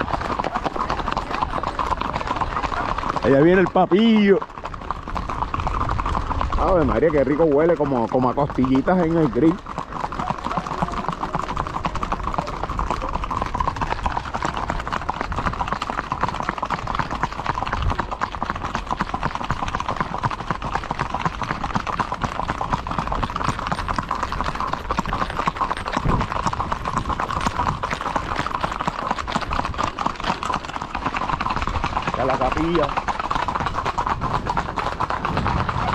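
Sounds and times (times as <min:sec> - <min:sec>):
horse hooves clip-clopping: 0:00.0 - 0:35.9.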